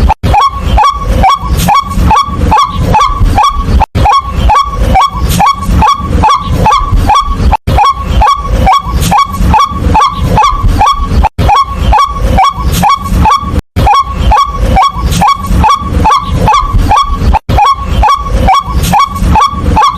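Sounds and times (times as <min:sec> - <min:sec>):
waterhen calling: 0:00.0 - 0:19.9.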